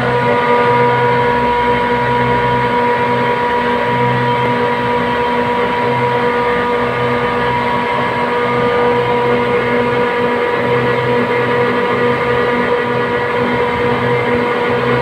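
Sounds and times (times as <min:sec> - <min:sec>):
heavy machinery humming and whining: 0:00.0 - 0:15.0
low throb: 0:00.0 - 0:15.0.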